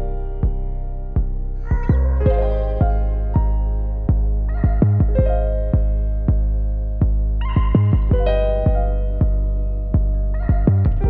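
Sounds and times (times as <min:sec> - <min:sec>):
electric piano and synth chords: 0:00.0 - 0:11.0
low beat thumps: 0:00.0 - 0:11.0.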